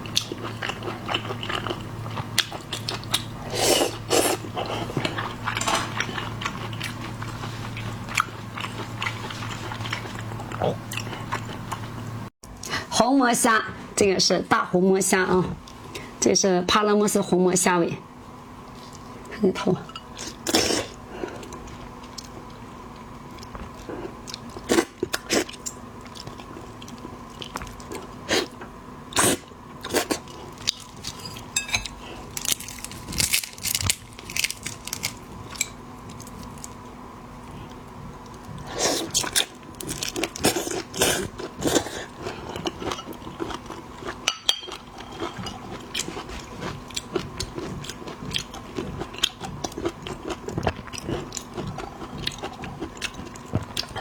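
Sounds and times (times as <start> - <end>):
crunching and chewing prawn: 0.0 - 11.9, 20.2 - 36.8, 37.5 - 54.0
faint steady hum: 0.0 - 54.0.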